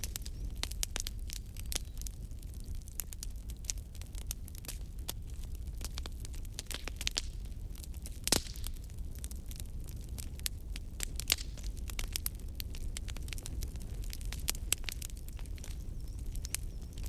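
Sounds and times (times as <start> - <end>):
fire crackling and popping: 0.0 - 17.0
wood fire burning: 0.0 - 17.0.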